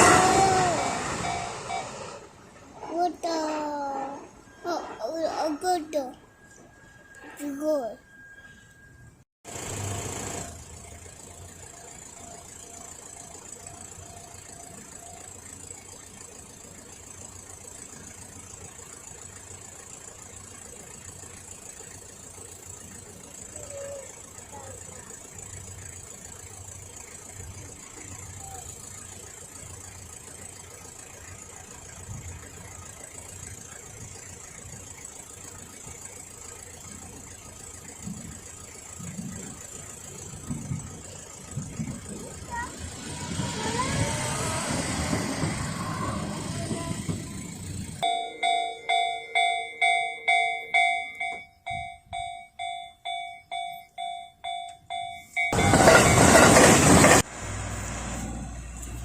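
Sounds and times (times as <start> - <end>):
engine idling: 8.8 - 59.0.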